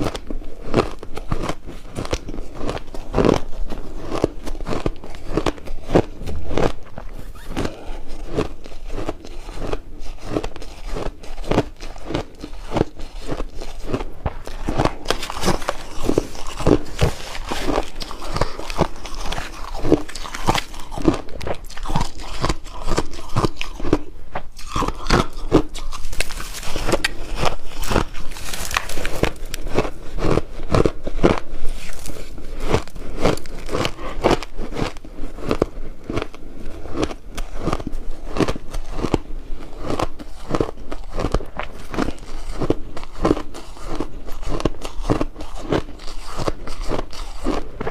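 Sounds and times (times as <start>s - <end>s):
ice cubes crunching: 0.0s - 47.9s.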